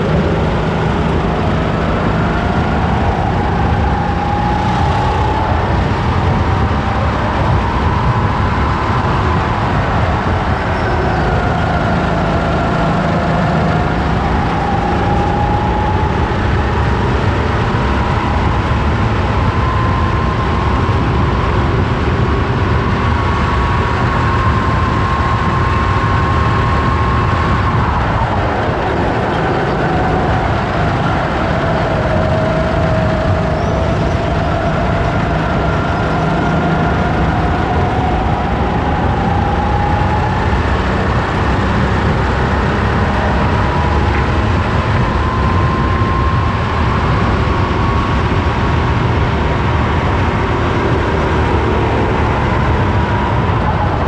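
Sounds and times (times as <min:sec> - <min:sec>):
kart engine revving: 0:00.0 - 0:54.0
wind rumble: 0:00.0 - 0:54.0.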